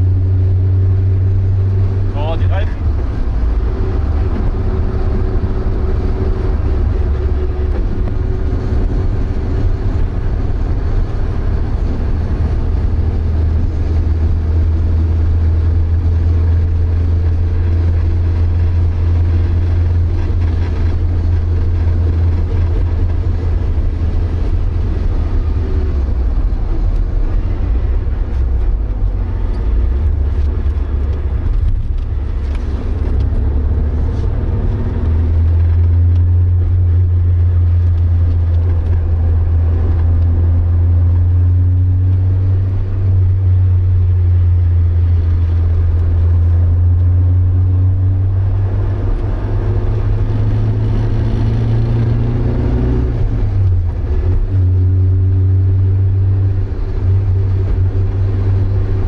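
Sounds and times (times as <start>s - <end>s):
car engine droning: 0.0s - 59.0s
road and wind noise: 0.0s - 59.0s.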